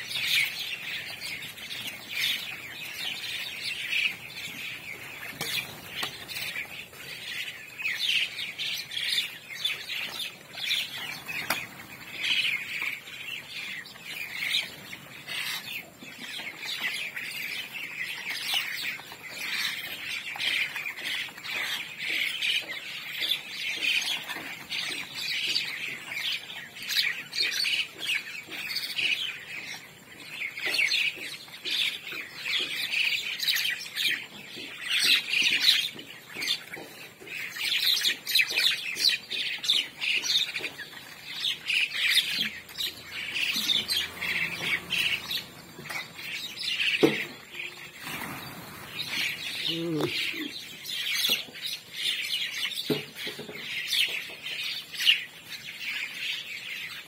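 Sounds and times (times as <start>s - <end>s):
flock of birds chattering and squawking: 0.0s - 57.0s.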